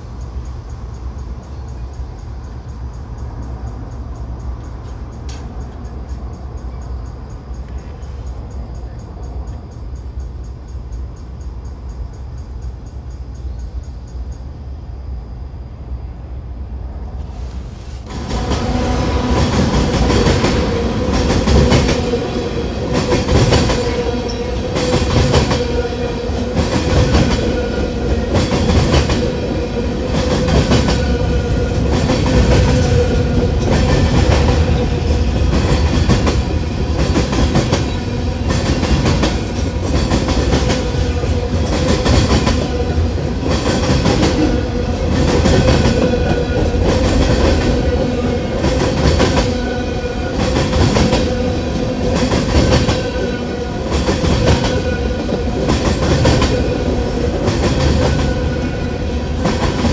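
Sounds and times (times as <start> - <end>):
ringing tone from train wheels: 0.0 - 15.2, 18.1 - 59.9
train wheels clacking over rail joints: 0.2 - 12.9, 18.0 - 59.9.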